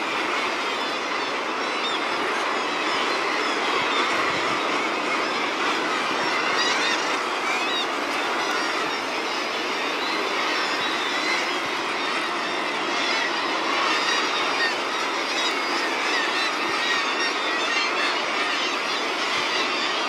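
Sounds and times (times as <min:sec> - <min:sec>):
seabird colony calling: 0:00.0 - 0:20.0.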